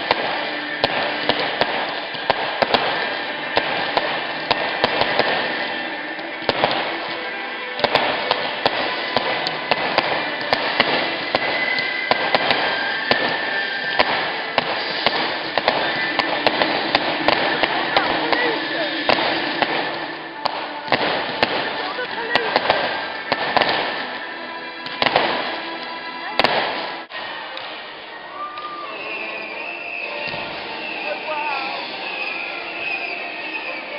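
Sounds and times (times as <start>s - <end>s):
fireworks crackling: 0.0s - 33.9s.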